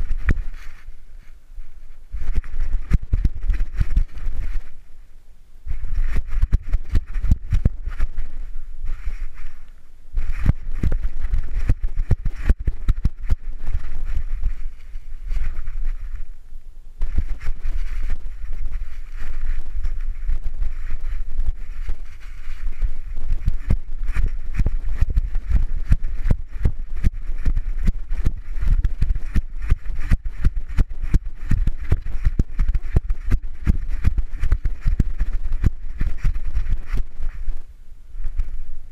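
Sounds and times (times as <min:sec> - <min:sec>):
steady low microphone rumble: 0:00.0 - 0:38.9.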